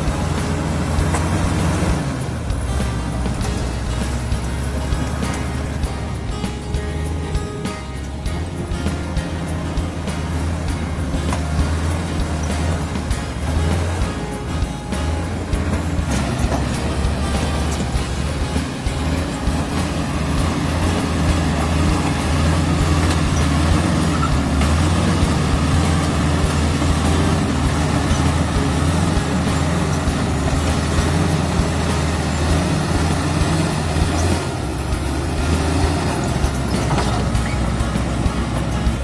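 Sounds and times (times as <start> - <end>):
bulldozer diesel engine drone: 0.0 - 39.0
bulldozer pushing earth: 0.0 - 39.0.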